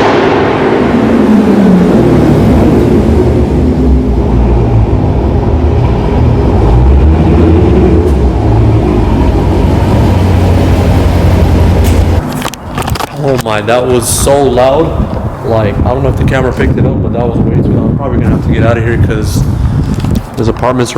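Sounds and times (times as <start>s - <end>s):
car engine revving: 0.0s - 20.3s
engine low uneven rumble: 0.0s - 20.8s.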